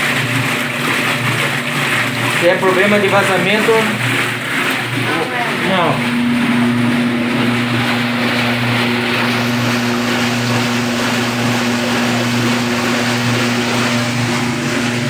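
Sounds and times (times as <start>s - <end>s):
washing machine agitating: 0.0s - 15.0s.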